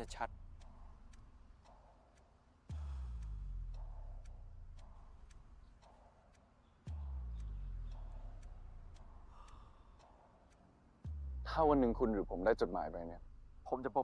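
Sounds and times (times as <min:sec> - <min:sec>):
clock-like ticking: 0:00.0 - 0:14.0.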